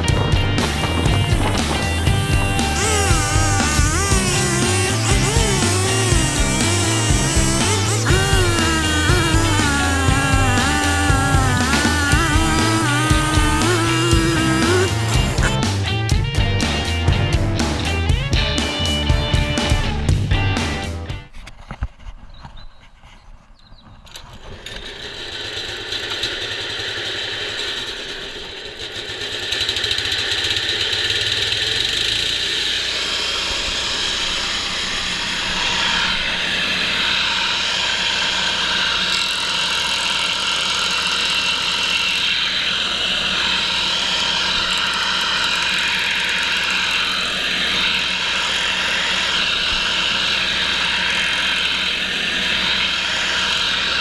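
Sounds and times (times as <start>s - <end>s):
wood chipper engine whining: 0.0s - 21.3s, 24.4s - 54.0s.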